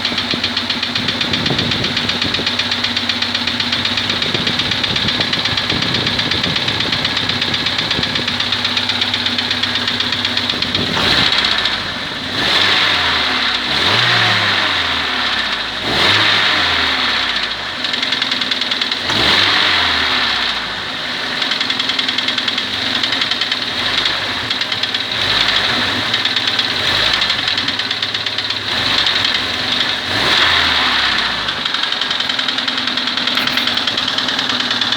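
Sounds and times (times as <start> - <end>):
petrol engine idling with knock: 0.0 - 15.9, 17.0 - 34.9.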